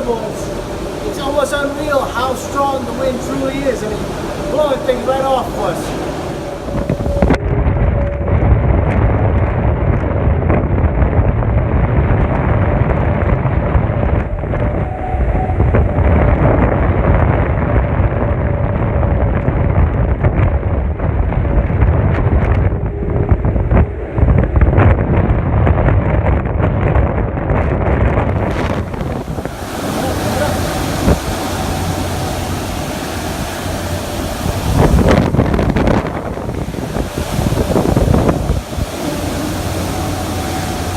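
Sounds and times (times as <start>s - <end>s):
strong wind buffeting microphone: 0.0s - 40.9s.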